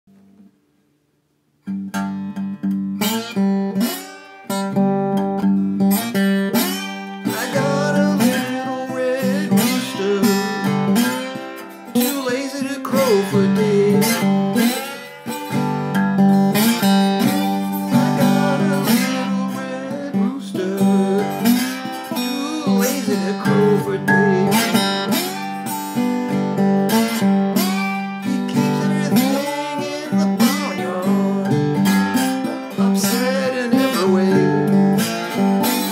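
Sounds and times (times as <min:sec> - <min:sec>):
slide guitar blues: 0:01.6 - 0:35.9.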